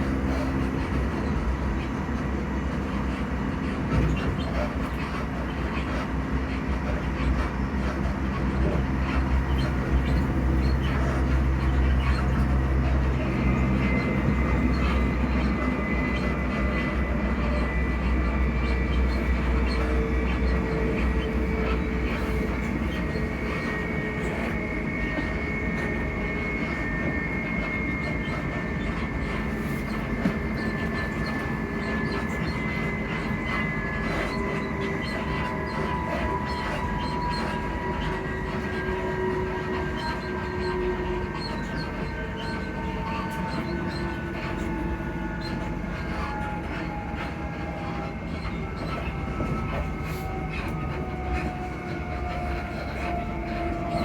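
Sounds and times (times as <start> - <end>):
train traction motors humming: 0.0 - 54.0
train wheels rumbling: 0.0 - 54.0.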